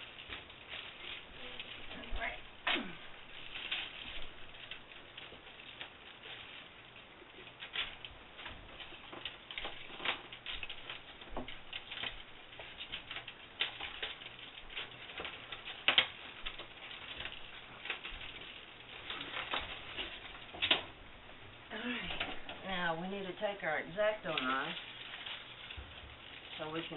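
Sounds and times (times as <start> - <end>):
foil wrap crackling and rustling: 0.0 - 26.9.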